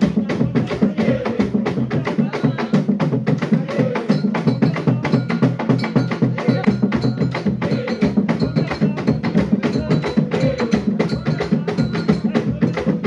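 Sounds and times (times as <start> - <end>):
fast hand percussion: 0.0 - 13.0.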